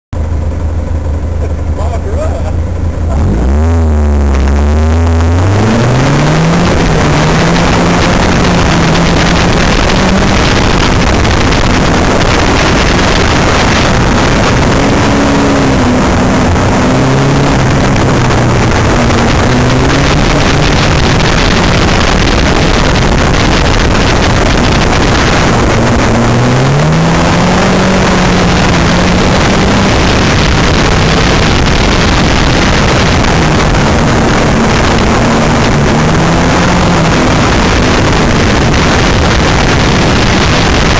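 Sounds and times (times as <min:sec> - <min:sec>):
racing car engine: 0:00.2 - 0:40.9
wind rush on microphone: 0:04.3 - 0:40.9.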